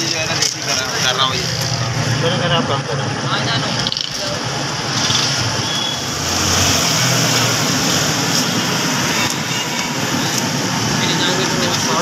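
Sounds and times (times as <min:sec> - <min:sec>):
roadside traffic: 0:00.0 - 0:12.0.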